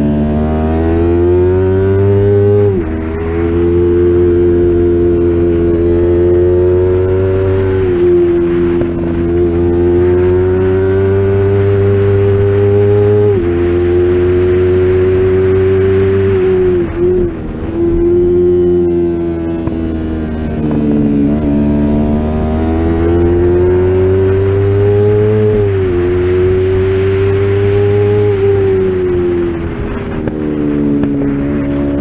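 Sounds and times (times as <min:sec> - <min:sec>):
motorcycle engine at high revs: 0:00.0 - 0:32.0.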